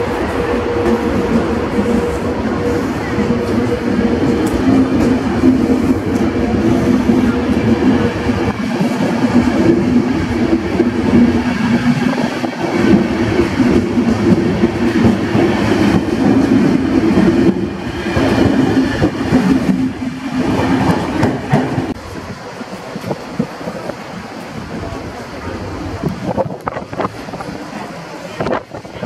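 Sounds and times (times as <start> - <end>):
train wheels humming on rails: 0.0 - 29.0.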